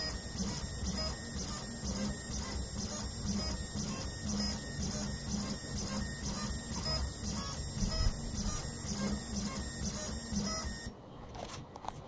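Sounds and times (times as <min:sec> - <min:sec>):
stepper motors whining: 0:00.0 - 0:10.9.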